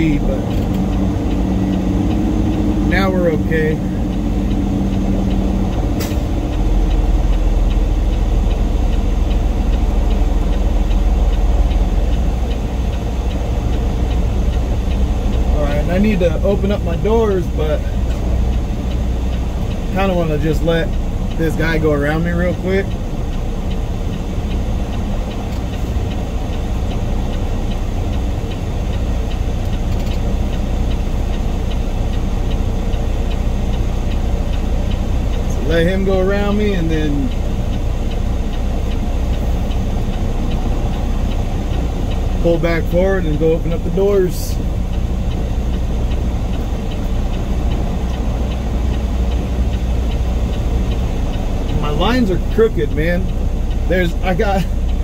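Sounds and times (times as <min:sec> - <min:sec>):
faint regular ticking: 0:00.0 - 0:55.0
truck diesel engine rumble: 0:00.0 - 0:55.0.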